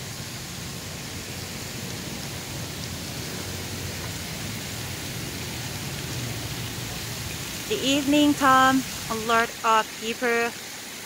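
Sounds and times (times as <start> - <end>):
fountain splashing: 0.0 - 11.0.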